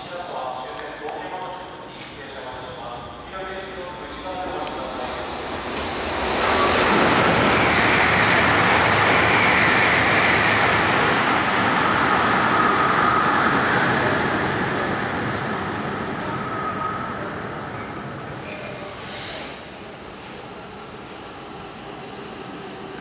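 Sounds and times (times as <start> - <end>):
faint train whine: 0.0 - 23.0
high-speed train rushing: 0.0 - 23.0.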